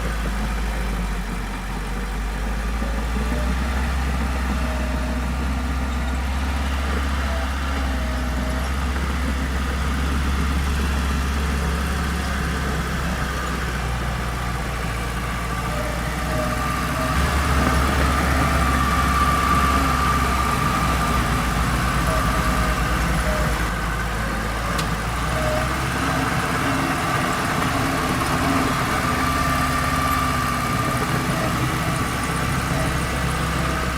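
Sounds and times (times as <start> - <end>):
heavy machinery diesel engine running: 0.0 - 33.9.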